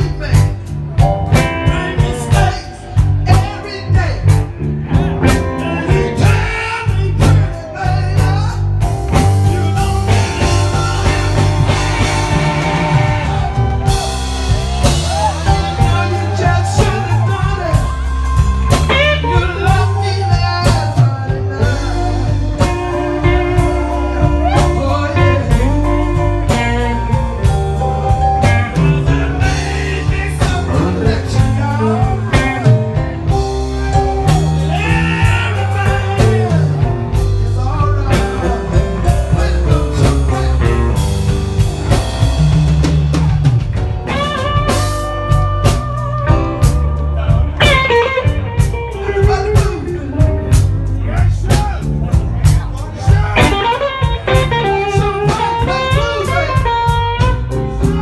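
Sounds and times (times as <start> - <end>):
blues band playing: 0.0 - 58.0.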